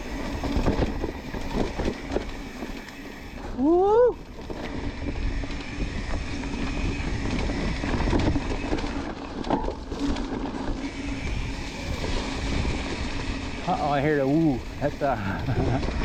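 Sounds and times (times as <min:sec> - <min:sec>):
bike rattling: 0:00.0 - 0:16.0
bike tyres rumbling on rock: 0:00.0 - 0:16.0.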